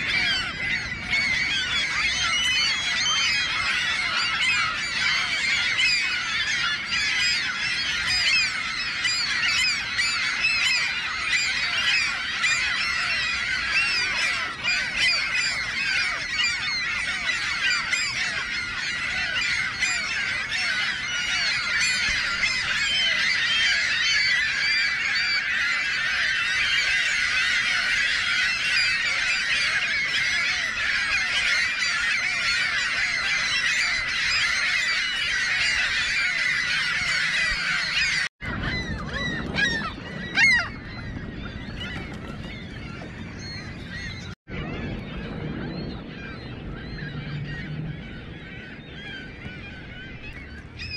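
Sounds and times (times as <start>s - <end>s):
gulls squawking: 0.0s - 50.9s.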